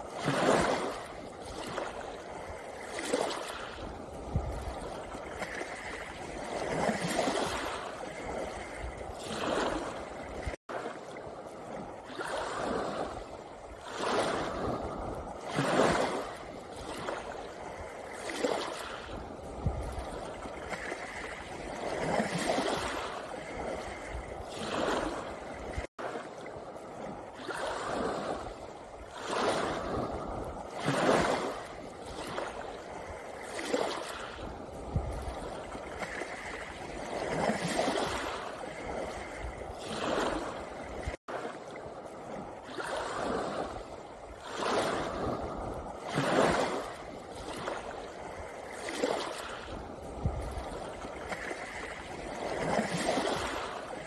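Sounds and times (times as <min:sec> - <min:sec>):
waves washing over pebble beach: 0:00.0 - 0:11.0, 0:11.6 - 0:54.0.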